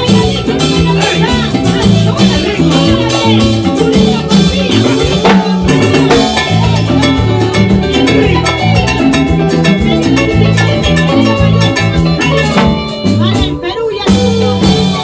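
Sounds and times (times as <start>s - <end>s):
band playing latin dance music: 0.0s - 15.0s.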